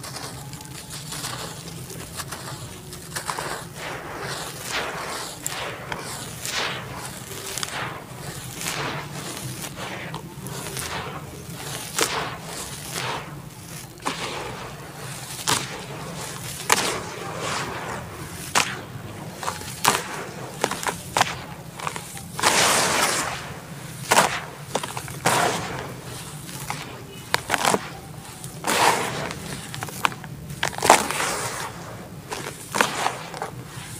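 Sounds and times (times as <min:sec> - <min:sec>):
hands crumbling dirt into clay: 0:00.0 - 0:33.9.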